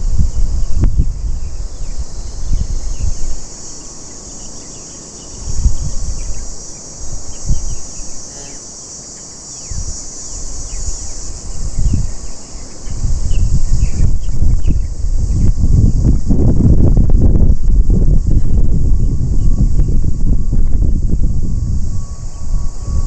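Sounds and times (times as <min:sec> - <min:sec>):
wind rumbling on microphone: 0:00.0 - 0:08.4, 0:09.5 - 0:23.0
high-pitched insect drone: 0:00.0 - 0:23.0.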